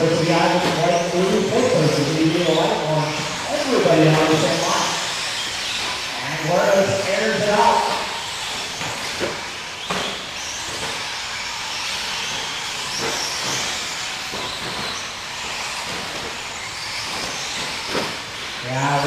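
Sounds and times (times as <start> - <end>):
small engines buzzing: 0.0 - 19.0
rc trucks knocking: 0.1 - 19.0.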